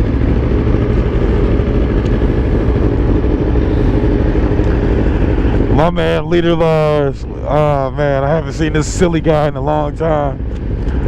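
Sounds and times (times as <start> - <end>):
faint engine drone: 0.0 - 11.0
motorcycle engine and road rumble: 0.0 - 11.0.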